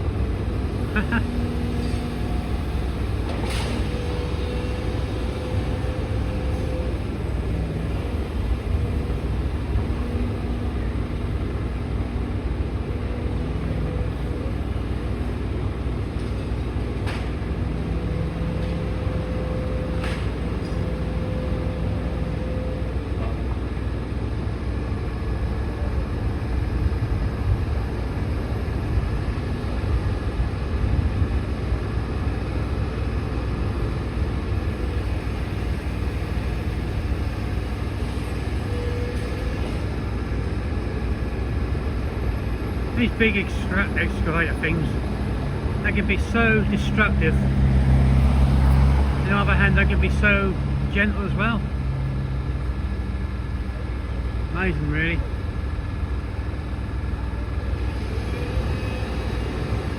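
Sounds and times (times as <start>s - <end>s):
excavator rumbling: 0.0s - 29.6s, 33.3s - 59.9s.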